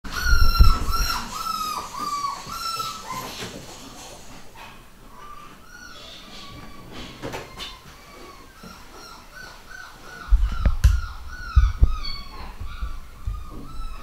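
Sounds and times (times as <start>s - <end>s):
puppy whimpering: 0.1s - 3.5s, 5.1s - 14.0s.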